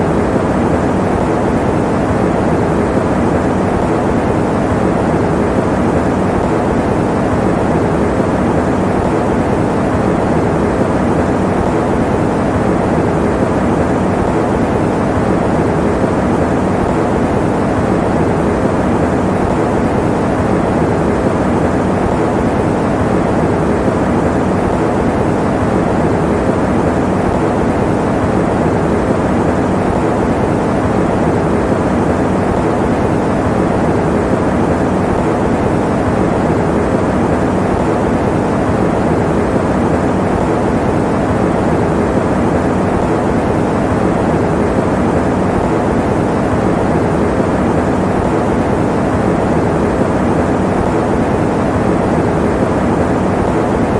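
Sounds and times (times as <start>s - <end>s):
electric fan air rushing: 0.0s - 53.9s.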